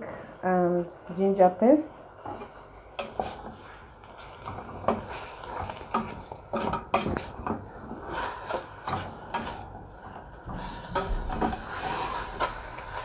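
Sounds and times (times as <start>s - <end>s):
wooden spoon scraping metal pot: 0.6s - 13.0s.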